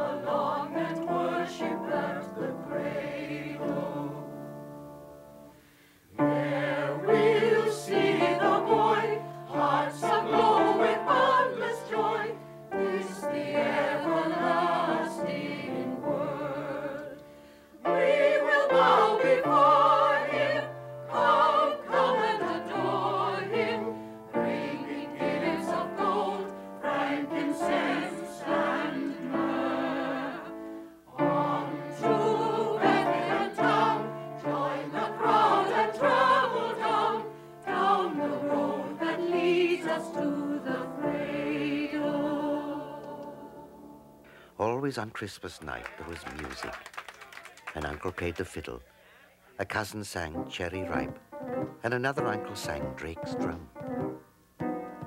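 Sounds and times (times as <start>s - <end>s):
choir singing in harmony: 0.0s - 44.3s.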